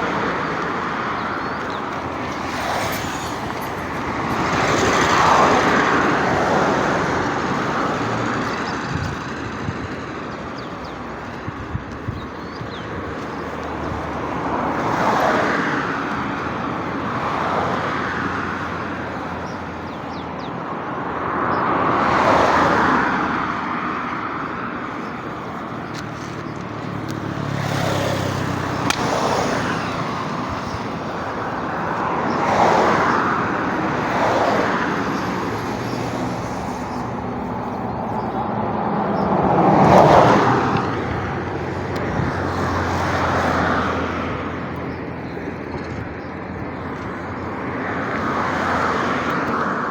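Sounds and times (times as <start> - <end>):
vehicles passing: 0.0 - 49.9.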